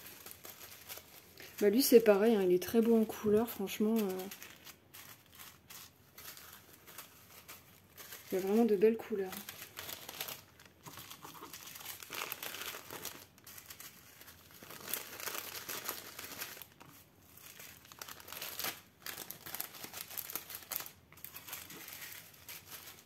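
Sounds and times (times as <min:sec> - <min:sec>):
plastic bags crinkling: 0:00.0 - 0:23.0.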